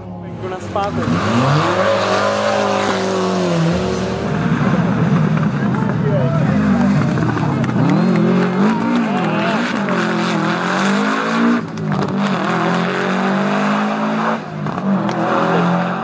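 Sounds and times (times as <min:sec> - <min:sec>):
rally car engine revving: 0:00.1 - 0:16.0.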